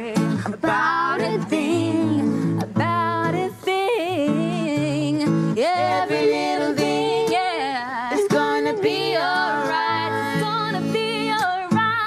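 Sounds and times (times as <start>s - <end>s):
acoustic guitar: 0.0s - 12.0s
girl singing: 0.0s - 12.0s.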